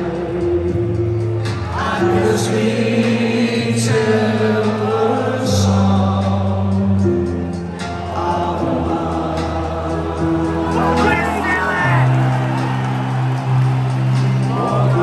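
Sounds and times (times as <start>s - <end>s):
song with sung vocals: 0.0s - 15.0s.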